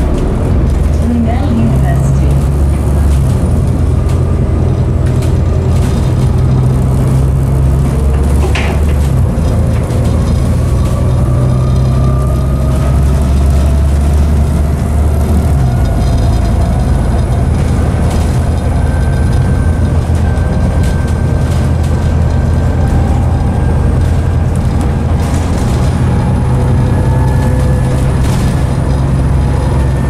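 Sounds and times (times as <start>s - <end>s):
bus diesel engine pulling away: 0.0s - 30.0s
drivetrain whine: 0.0s - 30.0s
interior rattles: 0.0s - 30.0s.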